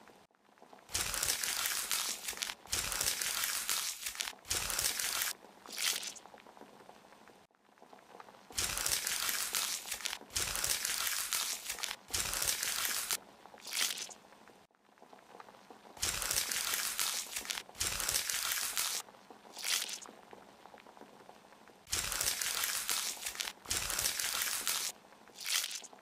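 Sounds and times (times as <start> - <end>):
dry crinkling and scraping: 0.5 - 26.0.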